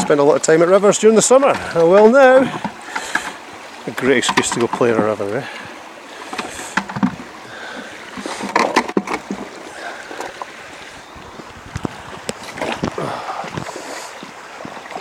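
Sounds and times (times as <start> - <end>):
short splashes and knocks: 0.0 - 10.8, 11.4 - 15.0
water sloshing in plastic pan: 1.2 - 15.0.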